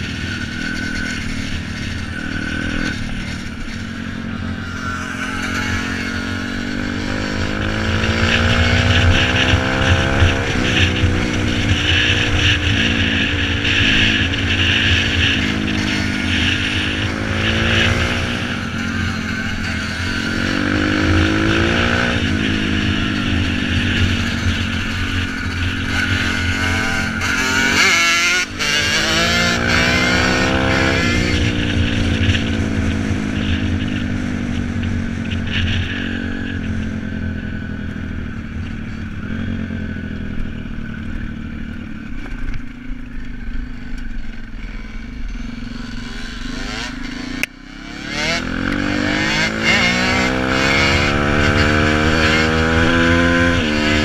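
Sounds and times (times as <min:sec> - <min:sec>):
motocross engine revving: 0:00.0 - 0:36.6, 0:44.6 - 0:54.0.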